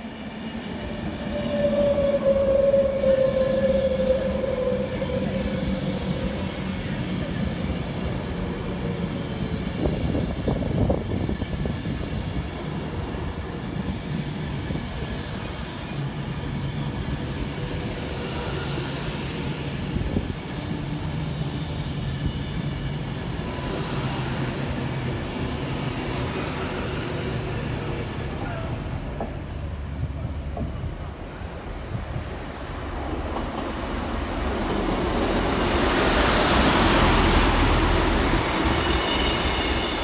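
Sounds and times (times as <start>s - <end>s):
electric train rumble and hum: 0.0s - 40.0s.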